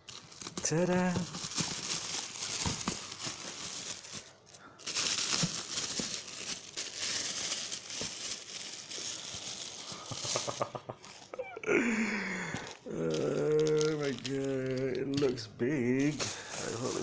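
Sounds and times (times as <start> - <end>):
paper packaging crinkling: 0.0 - 17.0.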